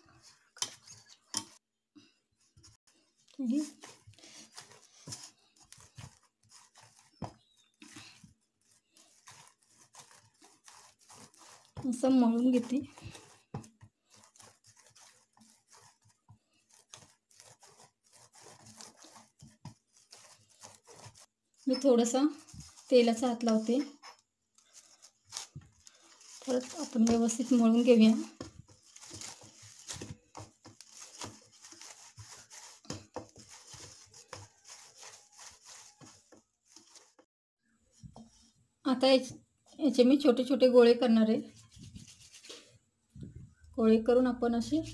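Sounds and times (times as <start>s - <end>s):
hands kneading soft dough: 0.0s - 44.9s.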